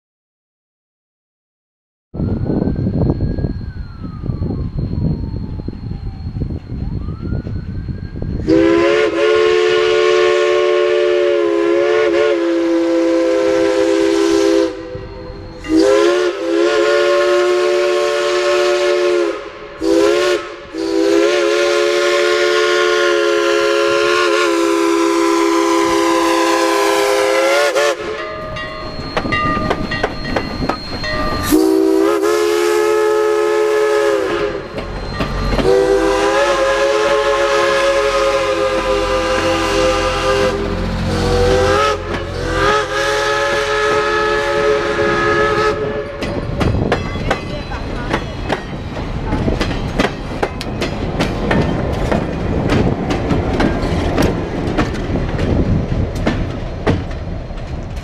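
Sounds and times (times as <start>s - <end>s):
steam locomotive chime whistle: 2.2s - 48.9s
train rumbling past: 2.2s - 58.0s.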